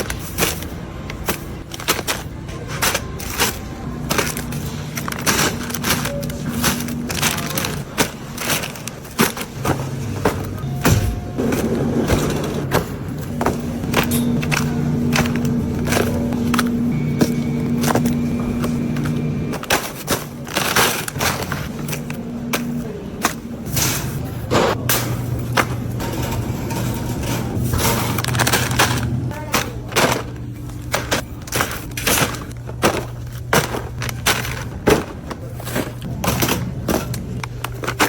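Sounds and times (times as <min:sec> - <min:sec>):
groceries and packaging clattering: 0:00.0 - 0:38.0
low steady hum: 0:02.8 - 0:38.0.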